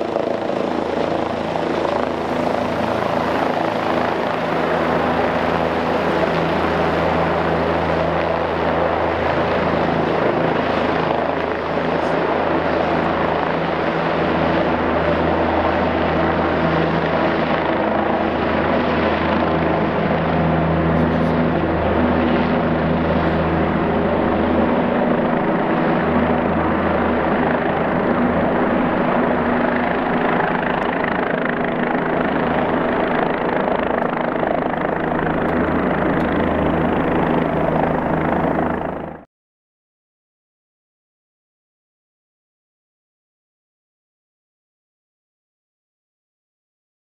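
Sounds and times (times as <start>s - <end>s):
helicopter rotor and turbine: 0.0s - 39.3s.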